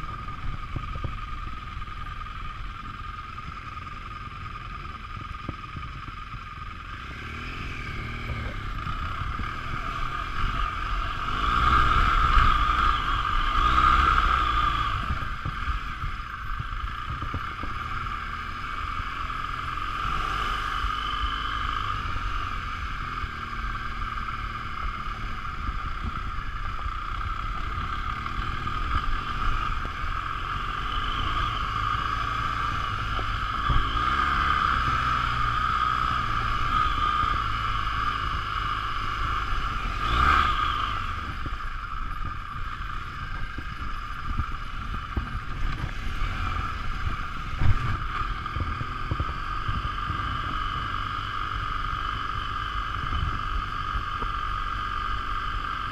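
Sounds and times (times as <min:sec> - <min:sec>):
motorcycle engine rumble: 0:00.0 - 0:55.9
wind and ride noise: 0:00.0 - 0:55.9.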